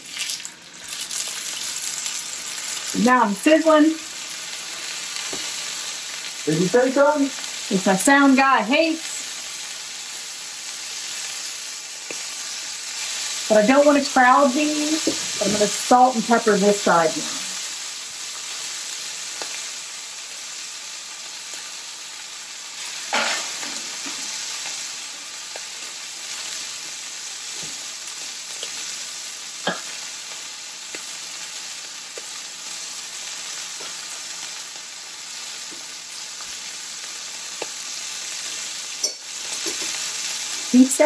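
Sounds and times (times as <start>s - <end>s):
steaks sizzling in oil: 0.0s - 41.0s.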